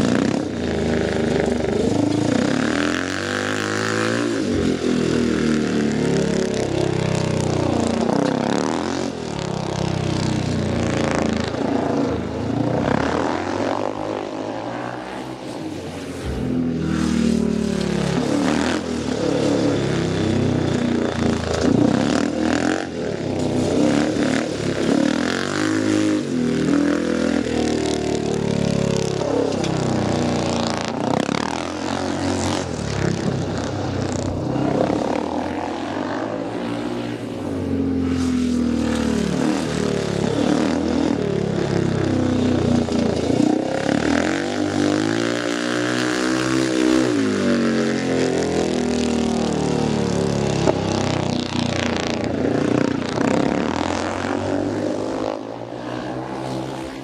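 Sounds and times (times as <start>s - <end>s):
motorcycle engine passing by: 0.0s - 57.0s.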